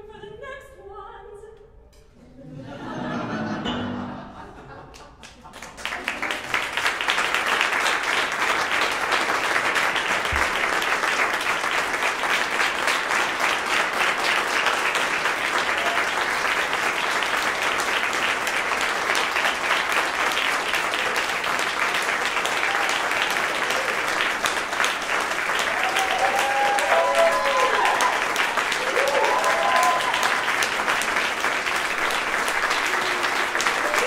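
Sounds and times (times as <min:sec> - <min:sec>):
audience applauding: 0:04.9 - 0:34.0.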